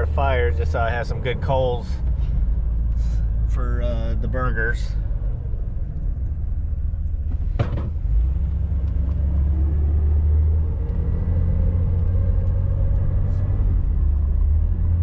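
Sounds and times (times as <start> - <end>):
van engine and road rumble: 0.0 - 15.0.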